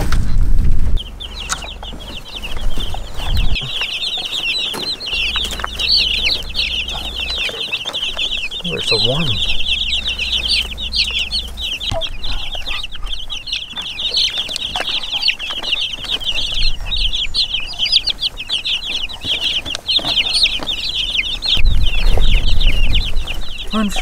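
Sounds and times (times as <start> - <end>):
low rumble: 0.0 - 19.1, 20.7 - 24.0
chicks peeping: 0.0 - 24.0.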